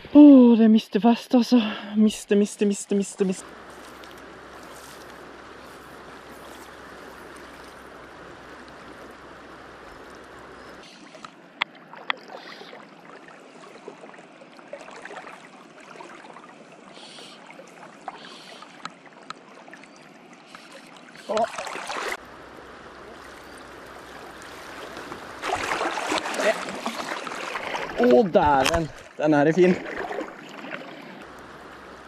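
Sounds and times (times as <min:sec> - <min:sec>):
river water rushing: 0:02.6 - 0:32.0
small water splashes: 0:03.4 - 0:32.0.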